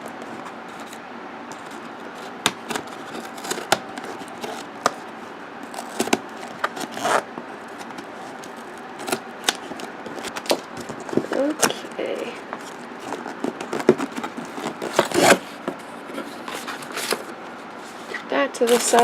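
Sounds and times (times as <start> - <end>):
cardboard packaging handled: 0.0 - 19.0.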